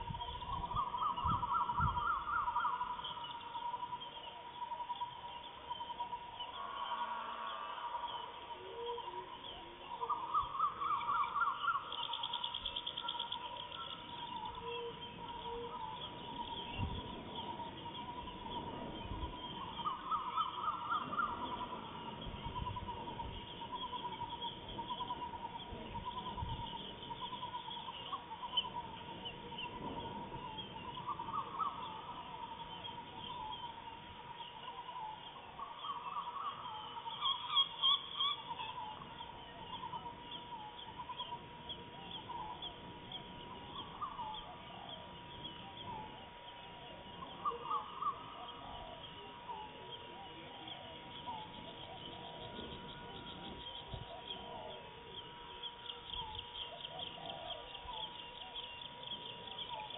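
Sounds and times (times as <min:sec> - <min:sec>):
pulsing insect trill: 0:00.0 - 0:59.9
rapid chattering bird calls: 0:00.0 - 0:59.9.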